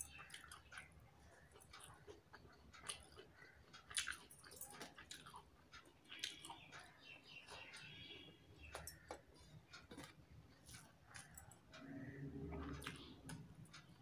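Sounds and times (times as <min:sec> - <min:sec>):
person chewing with mouth clicks: 0:00.0 - 0:11.6, 0:12.6 - 0:14.0.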